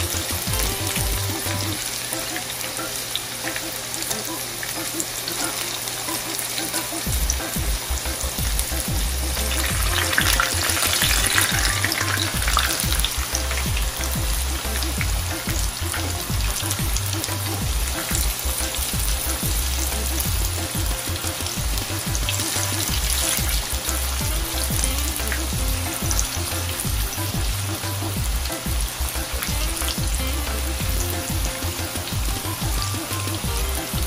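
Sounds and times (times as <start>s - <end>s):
food frying in hot oil: 0.0s - 34.0s.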